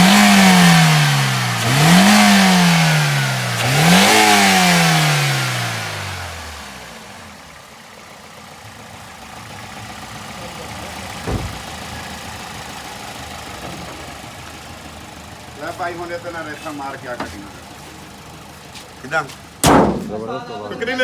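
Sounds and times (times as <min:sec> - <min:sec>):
car engine revving: 0:00.0 - 0:20.3
car engine idling: 0:00.0 - 0:21.0.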